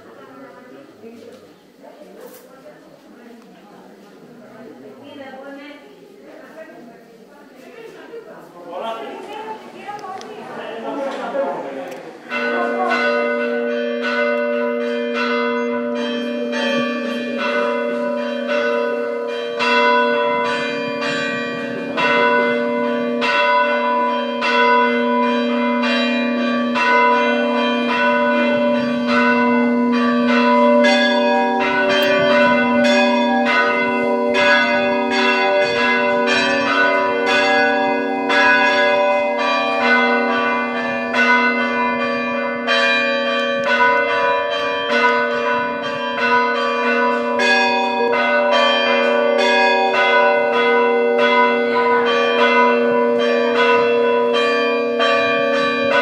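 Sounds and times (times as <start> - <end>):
church bells ringing: 10.6 - 56.0.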